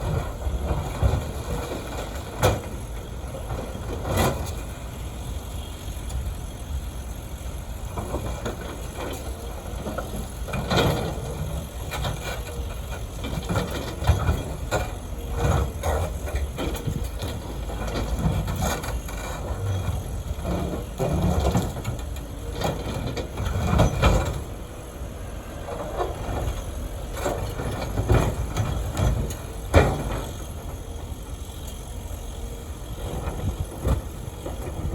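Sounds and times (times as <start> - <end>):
diesel engine rumble: 0.0 - 34.9.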